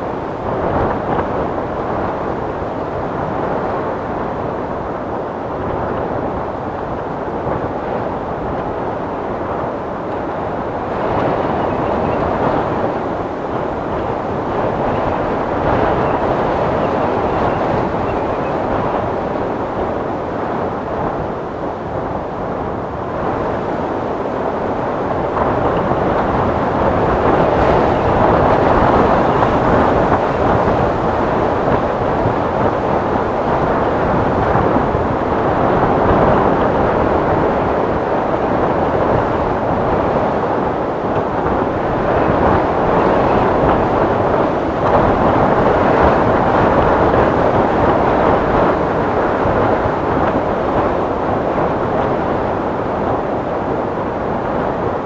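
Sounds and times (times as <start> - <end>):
rushing wind: 0.0 - 55.0.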